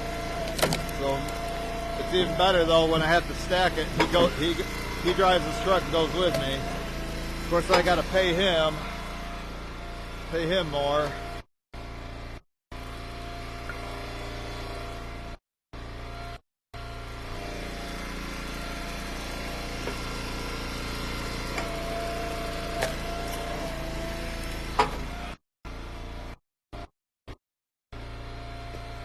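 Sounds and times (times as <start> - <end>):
wood splitter engine running: 0.0 - 26.4, 28.0 - 29.0.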